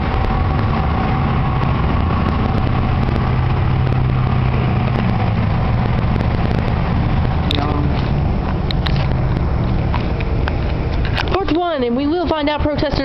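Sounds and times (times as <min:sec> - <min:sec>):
steady low hum: 0:00.0 - 0:13.0
vehicle engine rumbling: 0:00.0 - 0:13.0.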